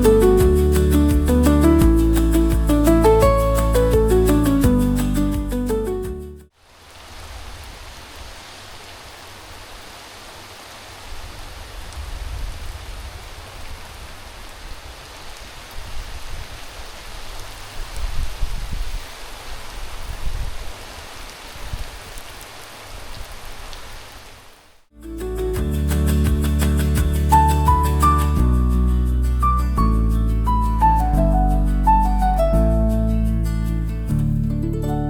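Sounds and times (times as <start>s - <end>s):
steady rain falling: 0.0s - 28.5s.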